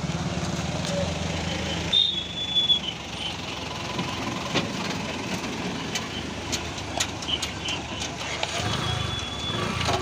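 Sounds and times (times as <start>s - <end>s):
motorbike traffic hum: 0.0s - 10.0s.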